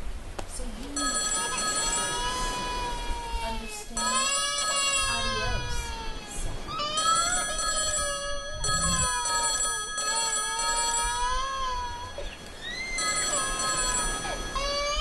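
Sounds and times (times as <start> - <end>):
steady high ringing tone: 1.0 - 3.3, 3.9 - 15.0
long wailing cries: 1.0 - 15.0.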